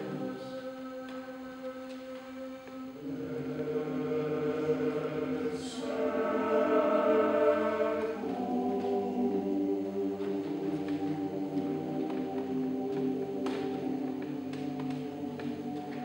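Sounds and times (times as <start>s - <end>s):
men's choir singing a cappella: 0.0s - 16.0s.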